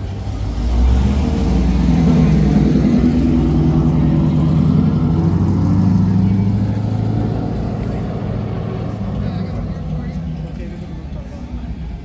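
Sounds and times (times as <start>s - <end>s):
car engine running at low revs: 0.0s - 11.8s.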